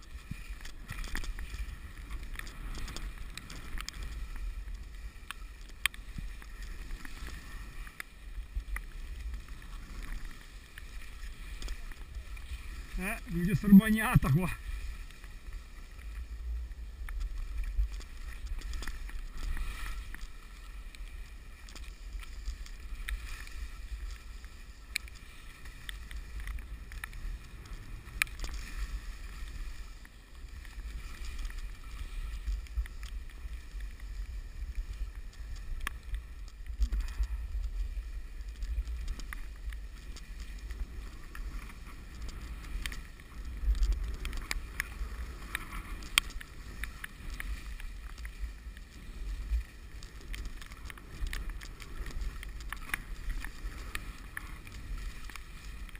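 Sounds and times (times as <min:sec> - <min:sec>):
skis hissing through wet snow: 0:00.0 - 0:55.9.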